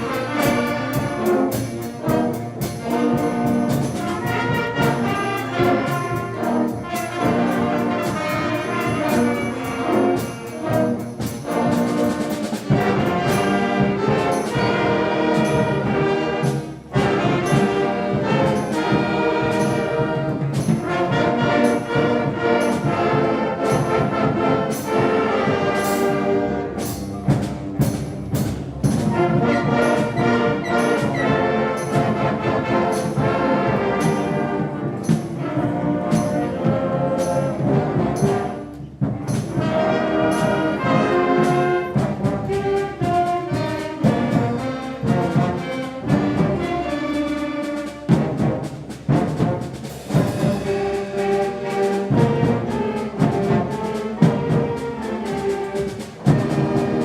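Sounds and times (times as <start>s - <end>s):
brass carrying tune: 0.0s - 57.0s
concert band playing: 0.0s - 57.0s.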